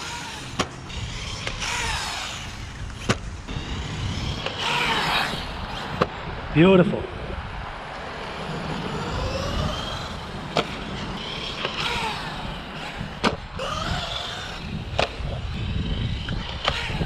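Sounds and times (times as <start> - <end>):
toy car hitting hard ground: 0.0 - 6.2, 8.9 - 17.0
electric motor whining: 0.0 - 17.0.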